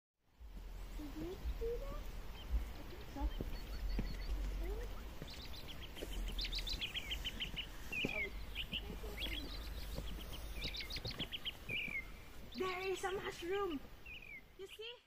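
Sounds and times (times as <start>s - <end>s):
steady low rumble: 0.3s - 12.6s
small songbirds chirping: 0.3s - 15.0s.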